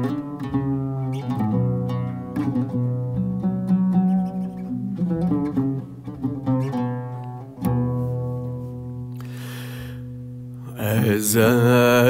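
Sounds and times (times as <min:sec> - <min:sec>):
oud plucked notes and chords: 0:00.0 - 0:12.0.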